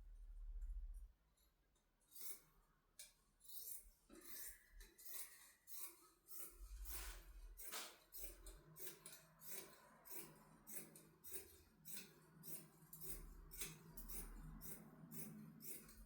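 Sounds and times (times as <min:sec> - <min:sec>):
scissors snipping fabric: 0:03.0 - 0:16.0.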